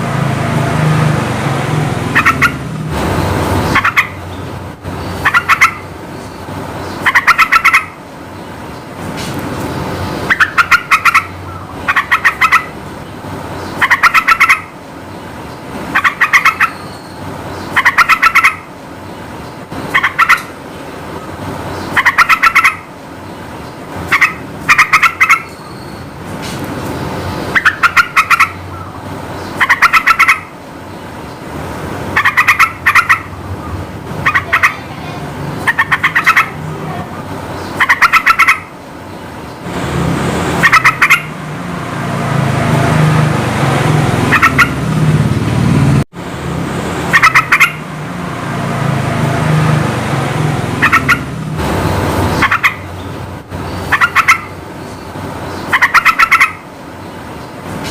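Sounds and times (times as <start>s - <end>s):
steady background noise: 0.0s - 57.9s.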